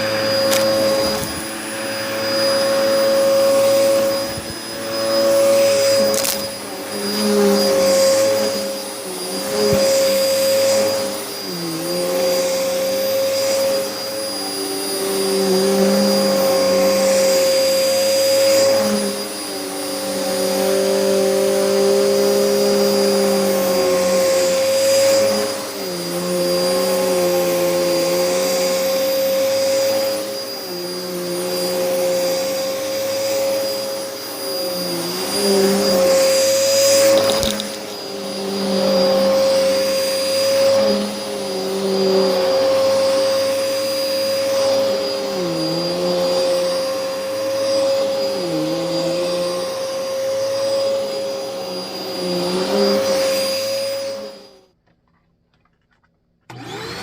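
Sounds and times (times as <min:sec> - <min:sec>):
vacuum cleaner motor whine: 0:00.0 - 0:54.8, 0:56.4 - 0:57.0.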